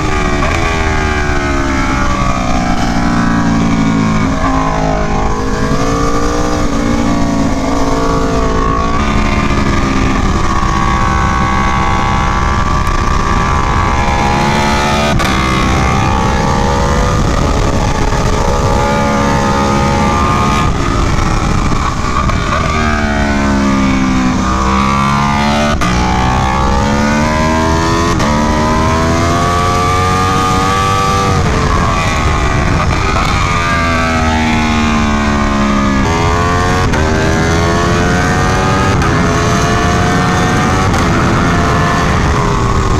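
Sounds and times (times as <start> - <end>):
motorcycle engine revving: 0.0 - 42.9
rush of noise: 0.0 - 42.9.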